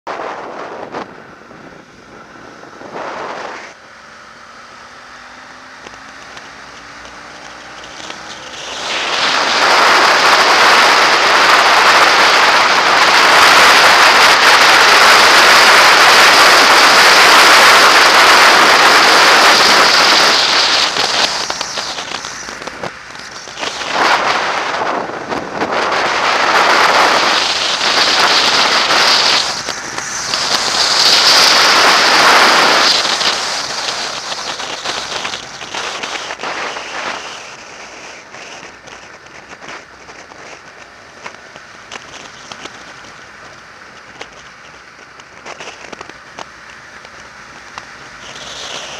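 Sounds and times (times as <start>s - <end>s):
wind rush over microphone: 0.1s - 3.8s, 6.3s - 47.2s
motorcycle engine: 0.1s - 48.9s.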